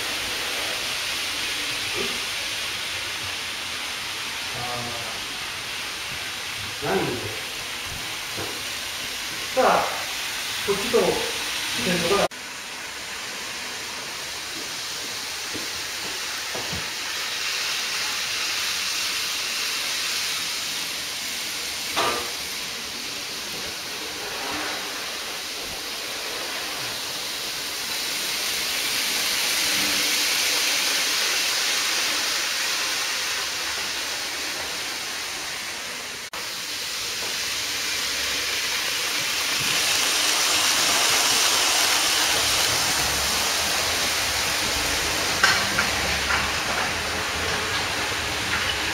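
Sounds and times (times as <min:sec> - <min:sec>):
model trains whirring on rails: 0:00.0 - 0:48.9.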